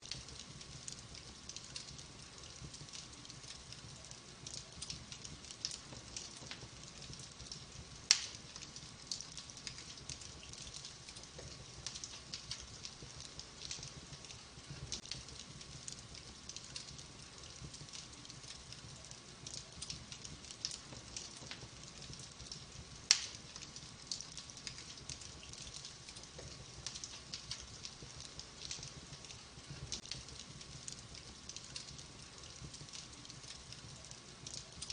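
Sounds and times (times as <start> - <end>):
sharp pops of fire: 0.0 - 34.9
wood fire crackling: 0.0 - 34.9.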